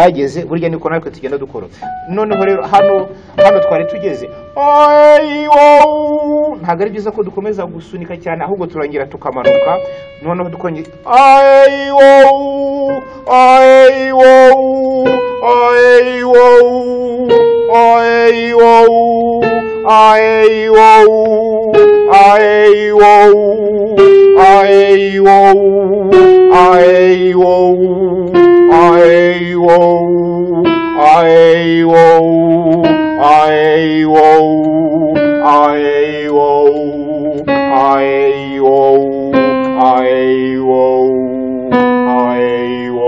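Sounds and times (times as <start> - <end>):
man singing vocal warm-up: 1.6 - 7.6, 9.4 - 43.0
digital piano chords: 1.8 - 43.0.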